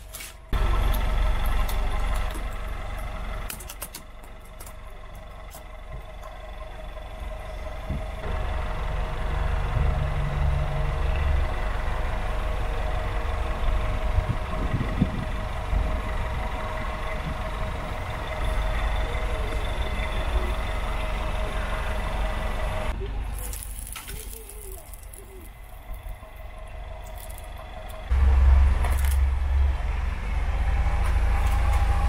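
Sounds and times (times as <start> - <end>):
car engine idling: 0.4 - 23.4, 24.4 - 32.0.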